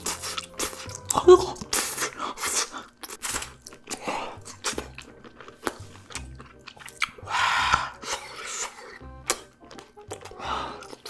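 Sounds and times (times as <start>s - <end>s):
chewing with wet mouth clicks: 0.0s - 7.2s, 7.9s - 11.0s.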